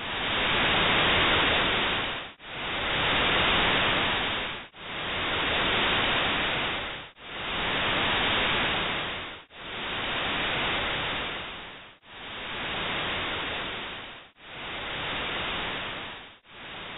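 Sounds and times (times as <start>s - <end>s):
pulsing white noise hiss: 0.0s - 16.9s.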